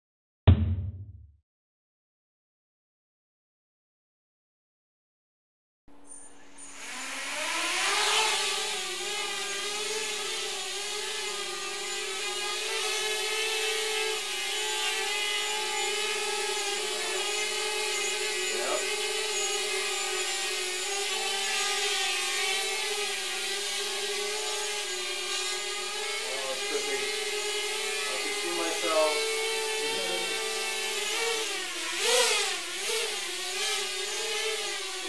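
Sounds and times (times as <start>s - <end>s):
quadcopter buzzing whine: 6.0s - 35.0s.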